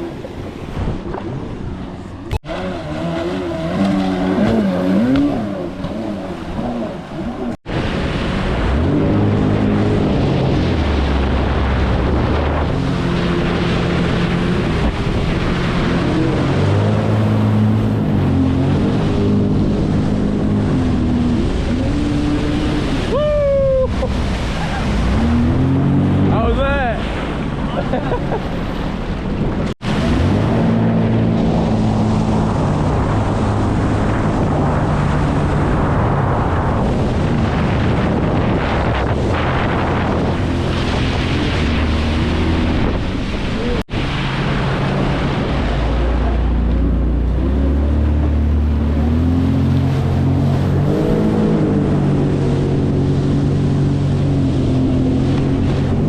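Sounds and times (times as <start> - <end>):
jet ski engine under throttle: 0.0 - 23.1, 23.9 - 56.0
rush of water: 0.0 - 56.0
wind: 0.0 - 56.0.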